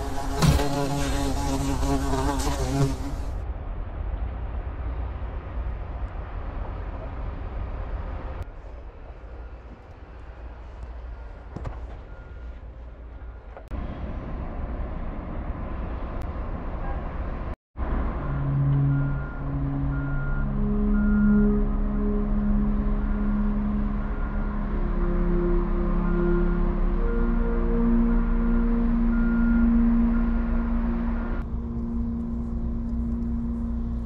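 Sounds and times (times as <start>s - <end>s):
distant traffic: 0.0s - 34.0s
low hum: 0.0s - 34.0s.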